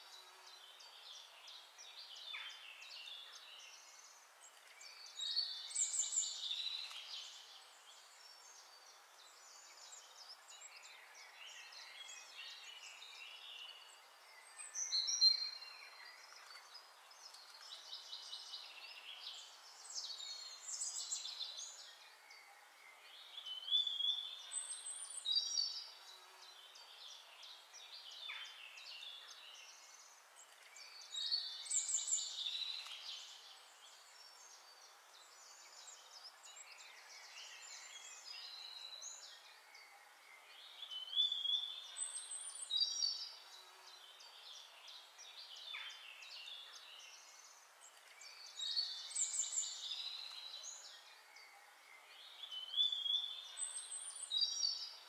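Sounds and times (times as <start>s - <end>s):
birds chirping and singing: 0.0s - 55.0s
faint steady hiss: 0.0s - 55.0s.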